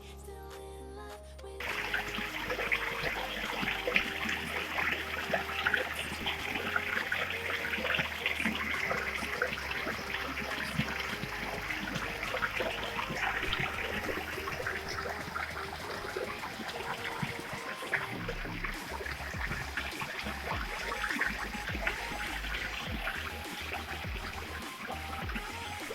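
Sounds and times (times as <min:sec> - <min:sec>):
music with stepping bassline: 0:01.6 - 0:25.9
water splashing and trickling: 0:01.6 - 0:25.9.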